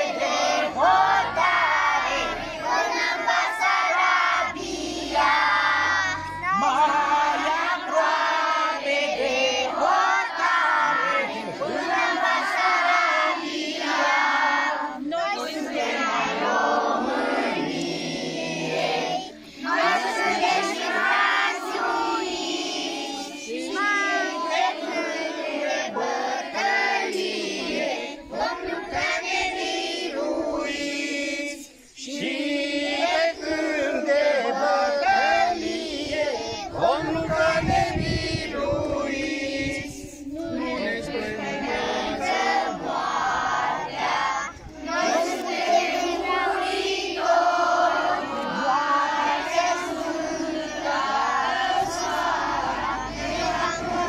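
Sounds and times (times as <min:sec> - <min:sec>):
children singing together: 0:00.0 - 0:54.0.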